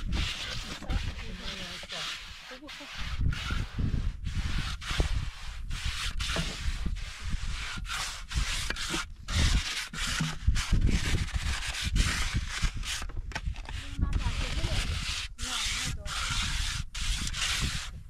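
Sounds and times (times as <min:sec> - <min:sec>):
trowel scraping wet cement: 0:00.0 - 0:18.0.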